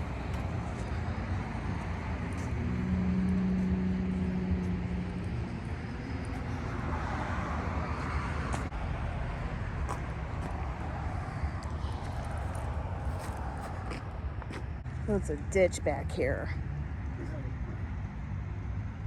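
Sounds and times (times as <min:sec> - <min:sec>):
car tyres passing: 0:00.0 - 0:15.3
low traffic rumble: 0:00.0 - 0:19.0
vehicle engine hum: 0:00.0 - 0:19.0.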